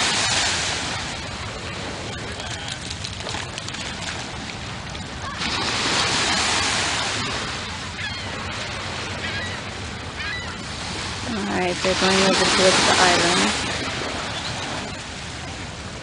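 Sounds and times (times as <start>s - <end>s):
surf washing on beach: 0.0s - 16.0s.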